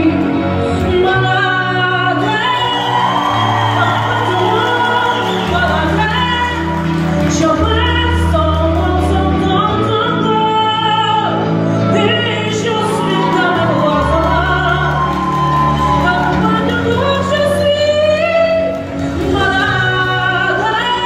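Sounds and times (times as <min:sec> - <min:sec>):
woman singing a slow waltz: 0:00.0 - 0:21.0.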